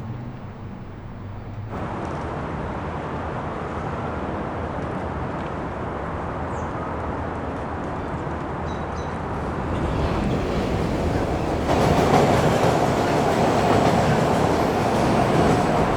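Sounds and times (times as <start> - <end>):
traffic noise: 0.0 - 15.9.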